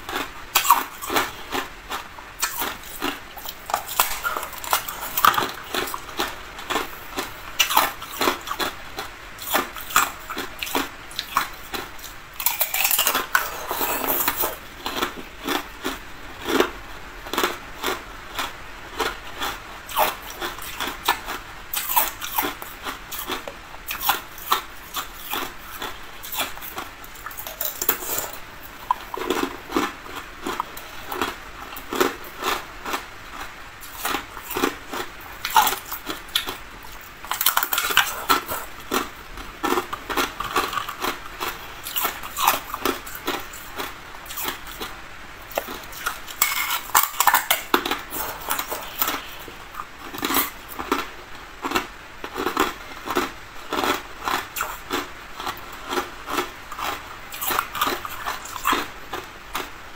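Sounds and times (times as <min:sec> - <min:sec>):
ice being chewed: 0:00.0 - 0:16.7, 0:17.3 - 0:44.9, 0:45.5 - 0:59.7.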